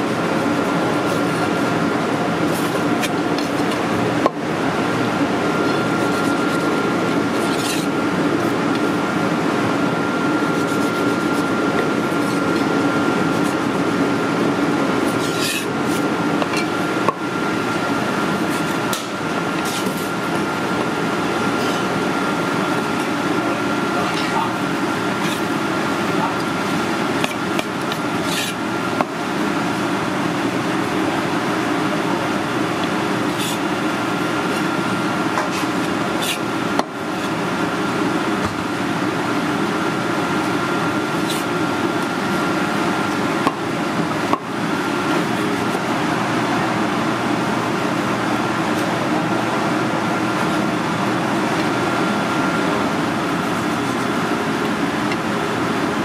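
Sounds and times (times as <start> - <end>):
kitchen ventilation noise: 0.0 - 56.0.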